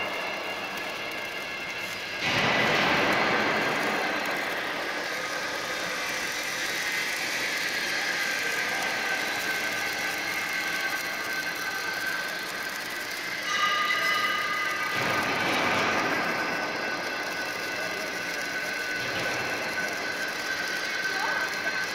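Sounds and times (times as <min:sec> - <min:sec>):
arc welding hiss: 0:00.0 - 0:21.9
faint steady high tones: 0:00.0 - 0:21.9
workshop machinery noise: 0:00.0 - 0:21.9.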